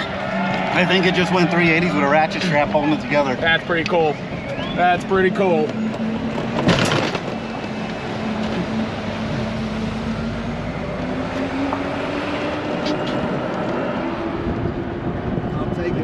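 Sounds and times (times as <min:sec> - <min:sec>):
road and wind noise: 0:00.0 - 0:16.0
utility cart motor drone: 0:00.0 - 0:16.0.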